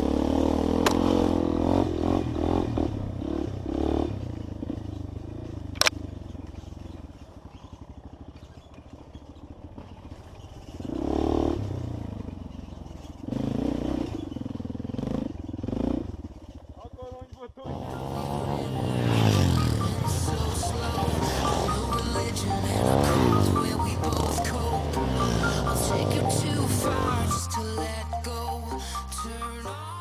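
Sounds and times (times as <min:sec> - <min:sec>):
motorcycle engine revving: 0:00.0 - 0:29.7.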